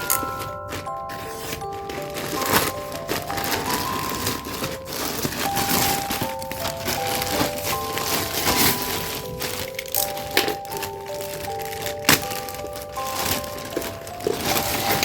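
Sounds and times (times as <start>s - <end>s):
background music melody: 0.0s - 15.0s
packaging crinkling and rustling: 0.0s - 15.0s.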